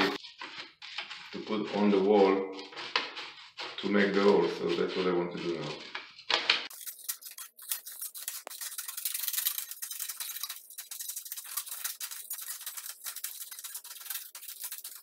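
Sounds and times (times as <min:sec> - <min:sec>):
paper rustling: 0:00.0 - 0:15.0
scissors snipping paper: 0:00.0 - 0:15.0.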